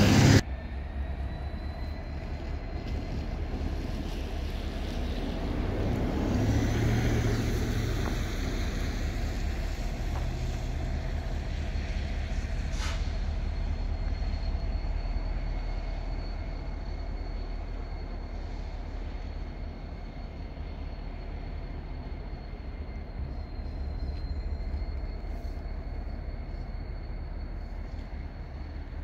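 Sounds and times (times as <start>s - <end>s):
diesel locomotive rumbling: 0.0s - 29.0s.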